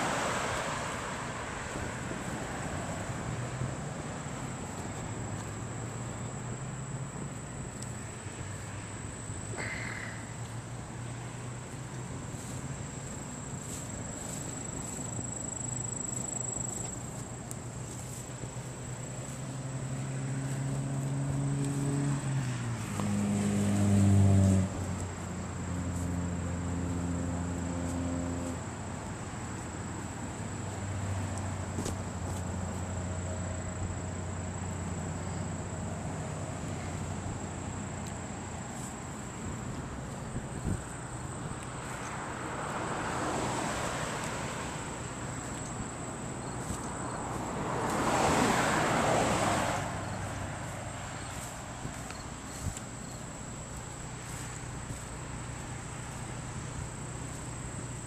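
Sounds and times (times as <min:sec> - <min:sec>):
highway traffic engines droning: 0:00.0 - 0:58.0.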